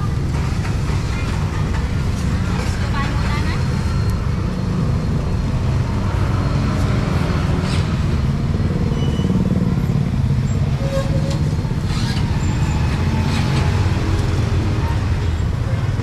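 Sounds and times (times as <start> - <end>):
motorbike and car engines: 0.0 - 16.0.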